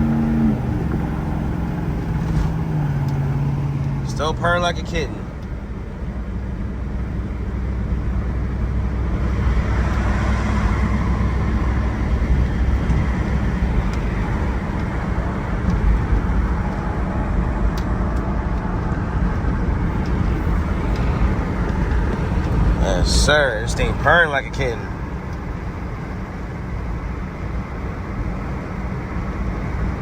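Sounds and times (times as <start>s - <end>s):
car engine running: 0.0s - 30.0s
road noise: 0.0s - 30.0s.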